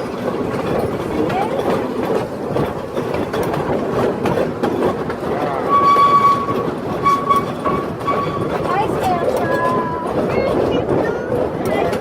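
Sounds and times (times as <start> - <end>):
ride train rumbling on track: 0.0 - 12.0.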